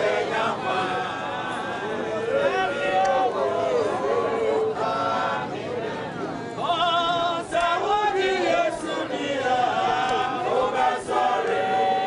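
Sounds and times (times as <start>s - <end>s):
crowd singing and chanting: 0.0s - 12.0s.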